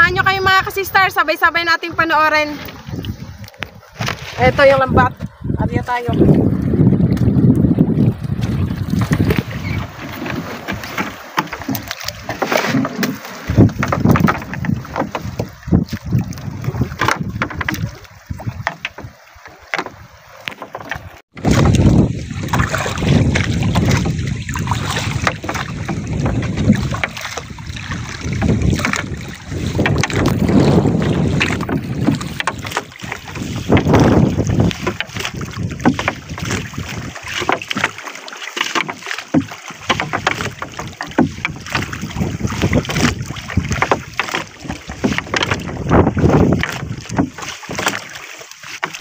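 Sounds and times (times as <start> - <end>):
wind buffeting microphone: 0.0 - 20.3, 20.9 - 37.9, 39.4 - 48.0
water slapping boat hull: 0.0 - 49.0.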